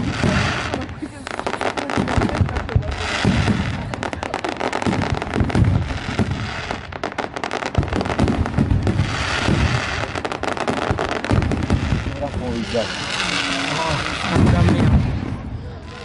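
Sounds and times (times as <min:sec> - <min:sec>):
deep fireworks booms: 0:00.0 - 0:16.0
fireworks crackling: 0:00.0 - 0:16.0.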